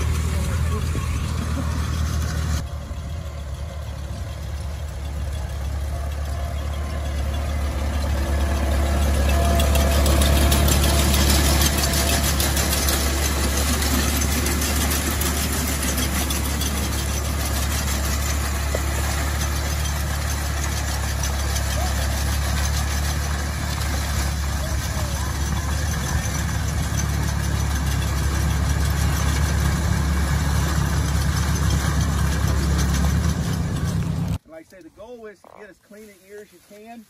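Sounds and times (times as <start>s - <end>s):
rapid mechanical clatter: 0.0s - 34.4s
tractor engine running: 0.0s - 36.8s.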